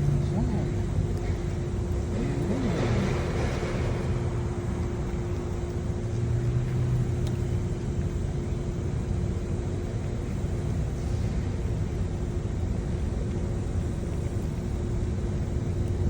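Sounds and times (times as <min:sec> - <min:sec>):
deeper hum: 0:00.0 - 0:16.0
low mechanical rumble: 0:00.0 - 0:16.0.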